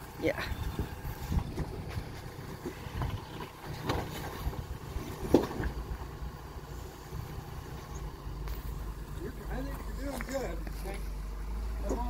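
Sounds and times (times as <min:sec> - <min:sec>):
vehicle engine running at low speed: 0:00.0 - 0:12.0.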